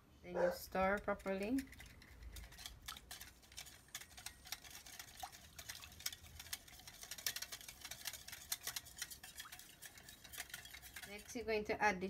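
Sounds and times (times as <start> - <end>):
liquid splashing: 0.8 - 11.4.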